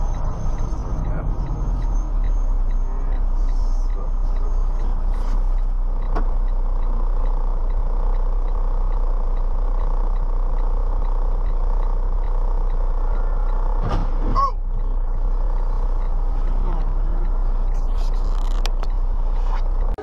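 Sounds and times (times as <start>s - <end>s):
faint regular ticking: 0.0s - 20.0s
vehicle running hum: 0.0s - 20.0s.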